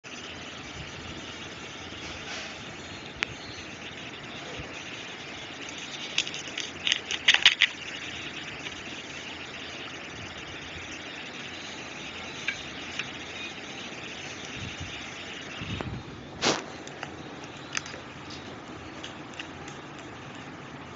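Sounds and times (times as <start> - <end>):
steady hiss: 0.0 - 20.9.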